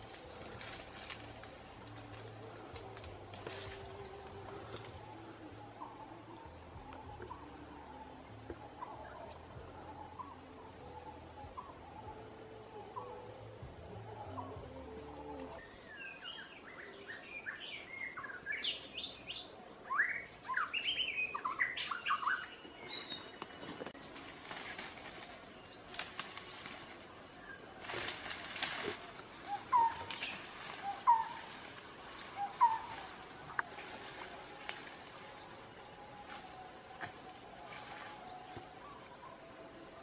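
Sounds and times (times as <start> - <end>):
leaves and twigs crackling underfoot: 0.0 - 10.8, 12.7 - 40.0
birds chirping: 0.0 - 39.9.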